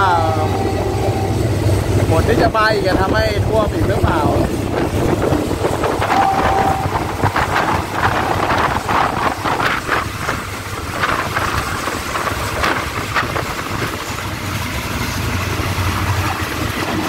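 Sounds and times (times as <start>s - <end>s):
train rumble and air rush: 0.0s - 17.0s
wheels and carriage rattling: 1.9s - 17.0s.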